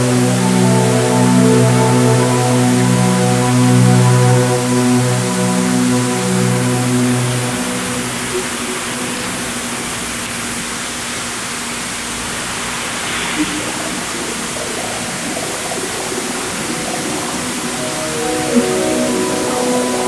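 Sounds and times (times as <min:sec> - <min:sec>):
fountain water spraying: 0:00.0 - 0:20.0.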